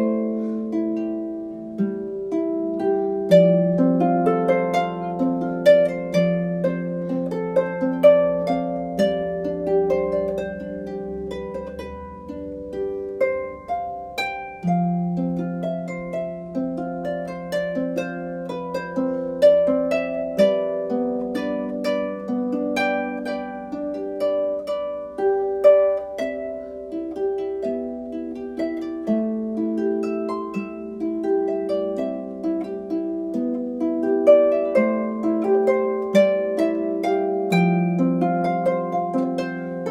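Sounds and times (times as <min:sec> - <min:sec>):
harp plucked notes: 0:00.0 - 0:39.9.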